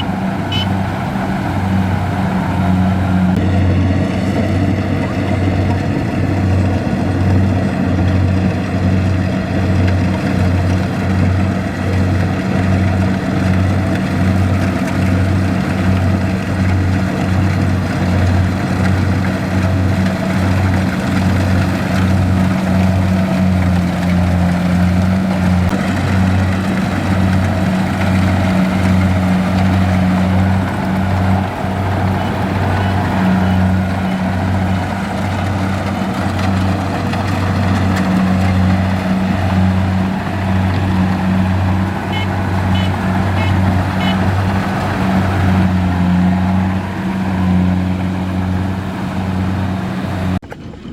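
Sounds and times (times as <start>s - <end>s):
combine harvester diesel throbbing: 0.0s - 50.9s.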